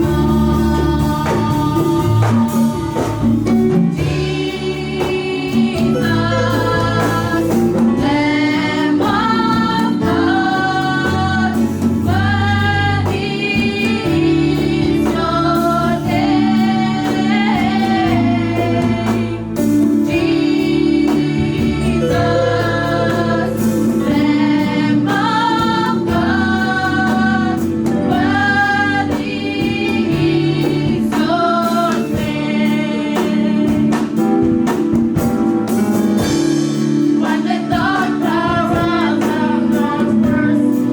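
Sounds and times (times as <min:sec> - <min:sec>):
choir singing: 0:00.0 - 0:34.6, 0:36.2 - 0:40.9
keyboard or bass: 0:00.0 - 0:40.9
steady drum beat: 0:00.0 - 0:40.9.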